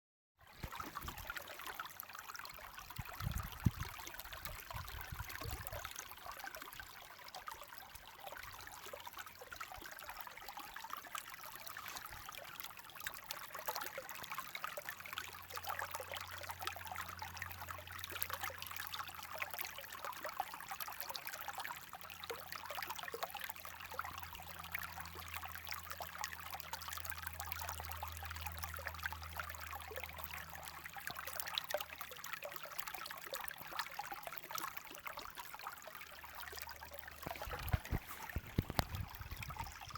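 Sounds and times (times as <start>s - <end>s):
stream water trickling: 0.4s - 39.9s.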